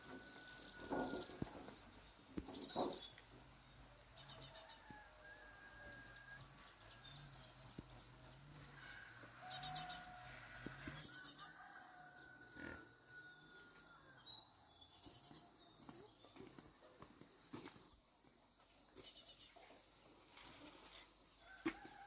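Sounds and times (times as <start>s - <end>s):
small birds chirping and trilling: 0.0s - 5.0s, 5.6s - 18.2s, 18.9s - 21.0s.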